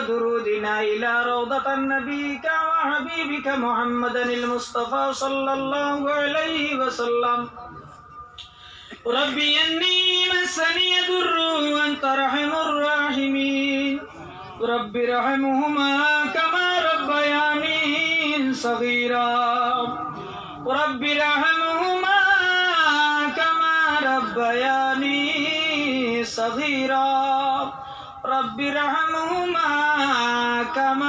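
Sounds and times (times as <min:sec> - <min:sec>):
man chanting into a microphone: 0:00.0 - 0:08.2, 0:09.0 - 0:31.0.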